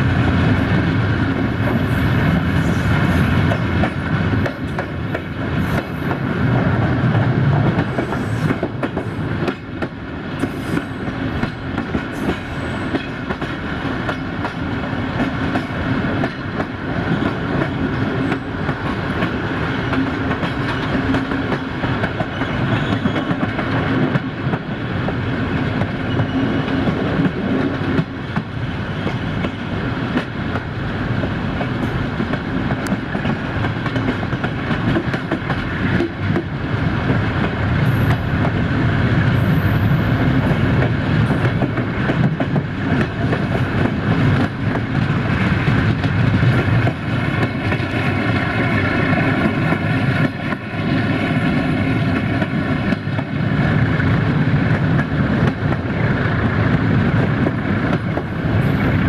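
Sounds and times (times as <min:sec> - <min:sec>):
rumble of train wheels on rails: 0:00.0 - 0:59.0.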